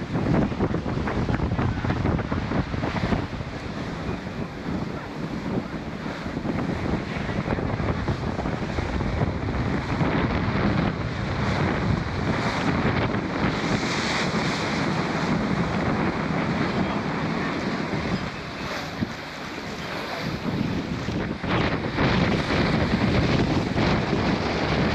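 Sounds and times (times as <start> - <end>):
waves washing along hull: 0.0 - 24.9
wind buffeting microphone: 0.0 - 24.9.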